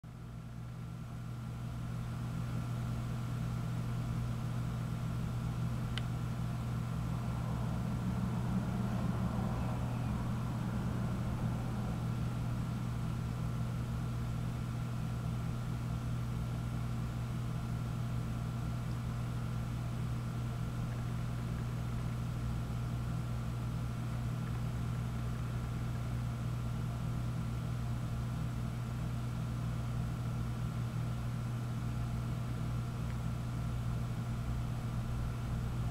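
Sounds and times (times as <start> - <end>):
low mechanical hum: 0.0 - 35.9.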